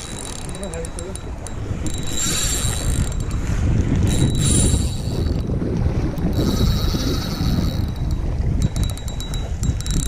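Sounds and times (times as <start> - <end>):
fishing reel drag buzzing: 0.0 - 10.0
wind rumbling on microphone: 0.0 - 10.0.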